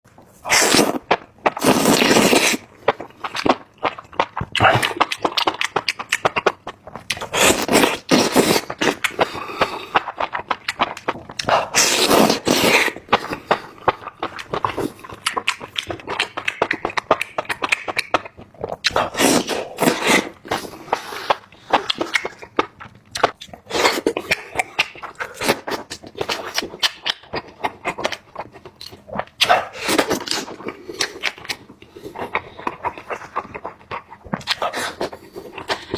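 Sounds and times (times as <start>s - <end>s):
mouth noises: 0.3s - 3.6s, 4.2s - 35.9s
crunching and chewing: 0.3s - 35.9s.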